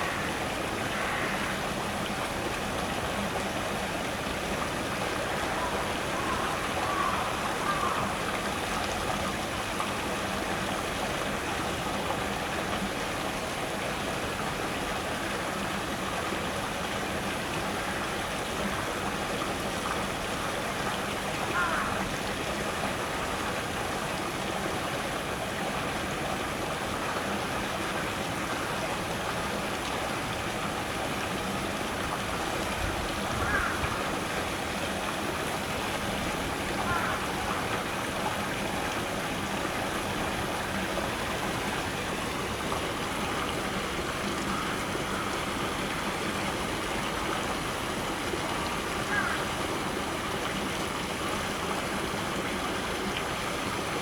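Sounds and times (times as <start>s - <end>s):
waterfall splashing over rocks: 0.0s - 54.0s.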